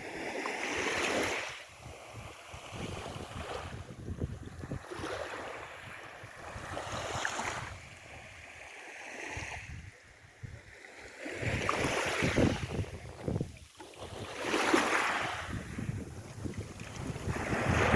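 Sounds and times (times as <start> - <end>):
sea waves washing in: 0.0 - 17.9.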